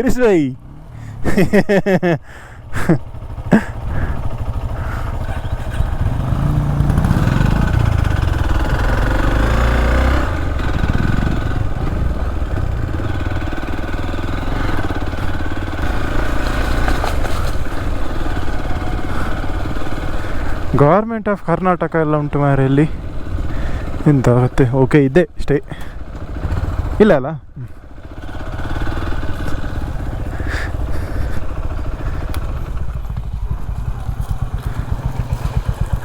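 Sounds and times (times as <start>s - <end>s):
motorcycle engine running: 0.0s - 25.1s, 25.8s - 36.0s.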